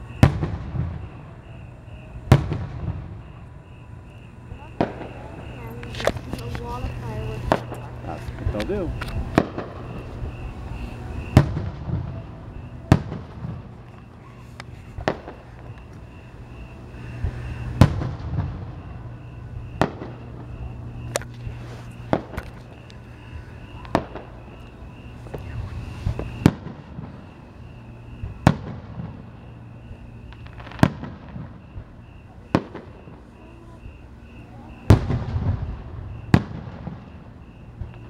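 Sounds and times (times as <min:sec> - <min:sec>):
firework shells booming: 0:00.0 - 0:38.0.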